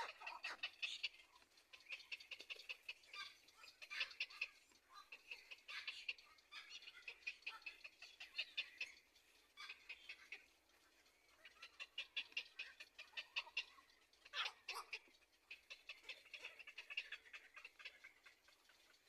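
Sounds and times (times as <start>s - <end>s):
heron chick rapid ticking calls: 0.0s - 19.0s.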